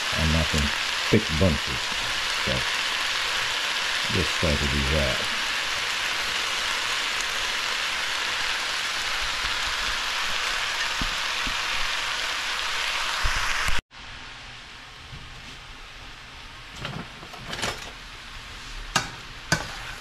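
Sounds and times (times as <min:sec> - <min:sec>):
vegetables sizzling in a wok: 0:00.0 - 0:14.2, 0:18.0 - 0:20.0.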